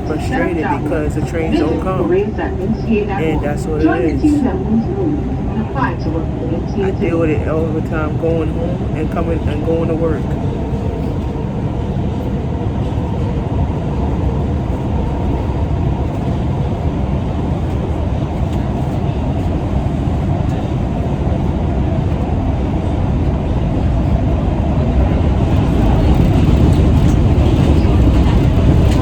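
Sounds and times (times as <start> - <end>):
subway train wheels rumbling on track: 0.0 - 29.0.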